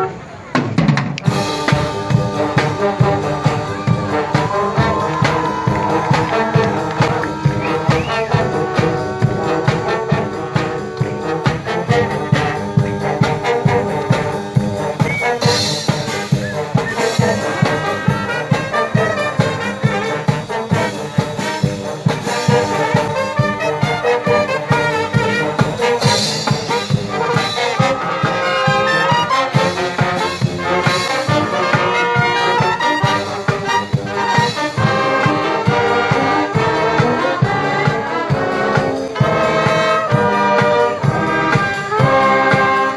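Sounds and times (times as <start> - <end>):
brass band melody: 0.0 - 42.9
marching drums: 0.5 - 42.9.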